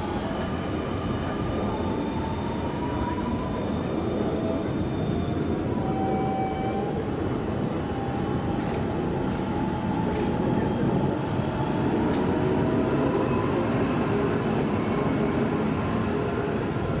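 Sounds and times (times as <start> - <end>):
tram rolling on rails: 0.0 - 17.0.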